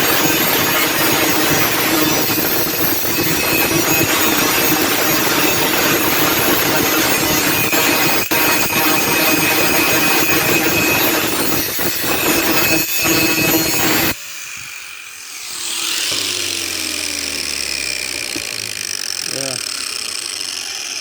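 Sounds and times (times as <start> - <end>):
electric grinder grinding steel: 0.0 - 21.0
motor winding down: 0.0 - 21.0.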